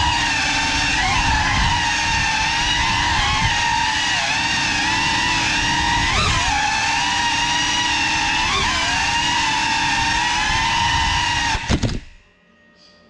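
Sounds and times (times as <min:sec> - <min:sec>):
drone motors whining: 0:00.0 - 0:12.2.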